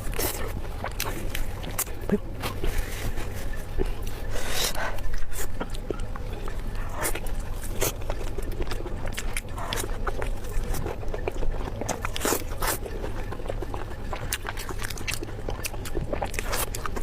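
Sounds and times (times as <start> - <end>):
chewing with wet mouth clicks: 0.0 - 4.2, 4.9 - 17.0
steady low hum: 0.0 - 17.0.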